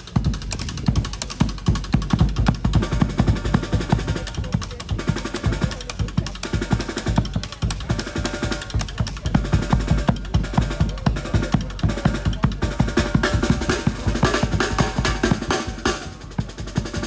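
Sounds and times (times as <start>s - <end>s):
fast drumming with bass drum: 0.0s - 17.0s
street musicians playing: 0.0s - 17.0s.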